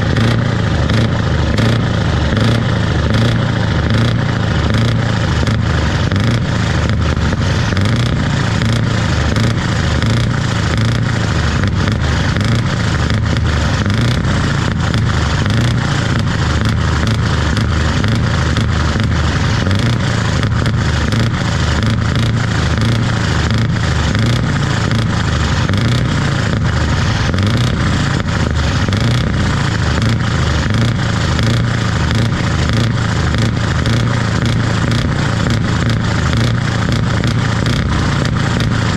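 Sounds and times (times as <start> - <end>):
diesel engine running loud: 0.0 - 38.9.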